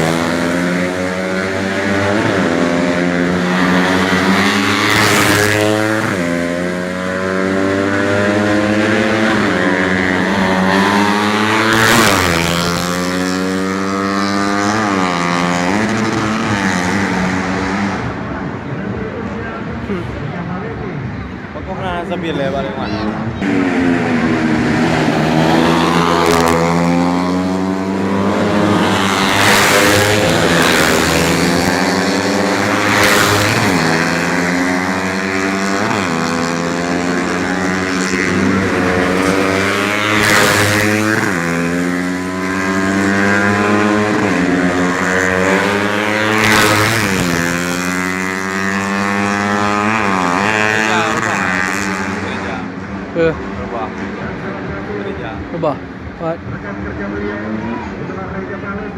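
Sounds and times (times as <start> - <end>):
racing motorcycles revving: 0.0 - 58.9.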